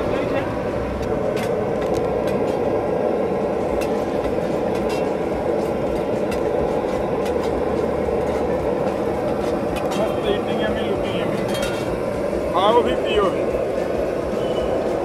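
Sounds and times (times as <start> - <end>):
steady rumbling roar: 0.0 - 15.0.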